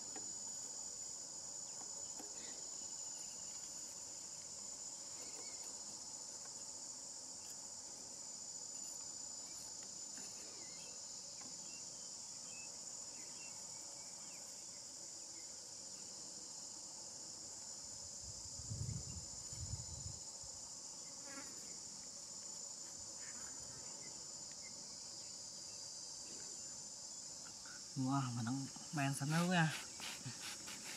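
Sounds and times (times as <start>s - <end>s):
insect chorus buzzing: 0.0s - 30.9s.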